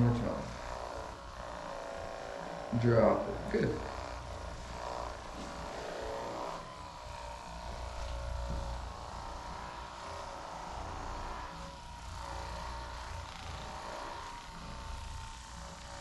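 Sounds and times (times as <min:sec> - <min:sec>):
massage device motor humming: 0:00.0 - 0:16.0.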